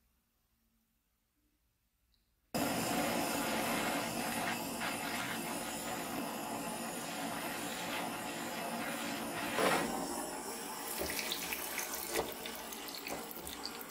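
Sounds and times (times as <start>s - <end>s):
gas torch hissing: 2.6s - 13.9s.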